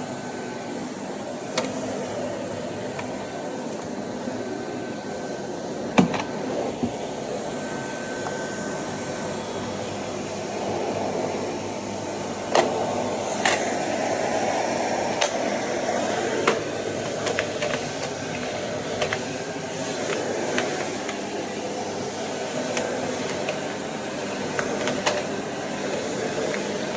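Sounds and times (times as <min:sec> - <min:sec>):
vacuum cleaner whine: 0:00.0 - 0:26.9.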